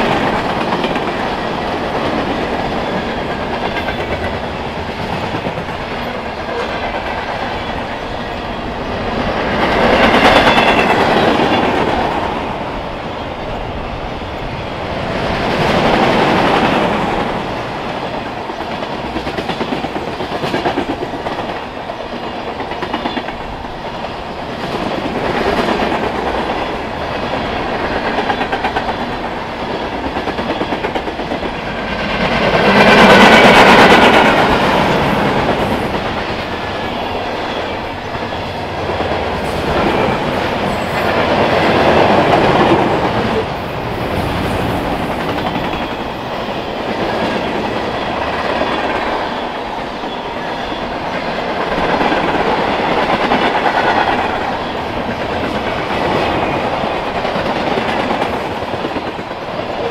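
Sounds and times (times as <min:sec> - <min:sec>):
train wheels clattering over rails: 0:00.0 - 0:13.2, 0:14.8 - 0:59.9.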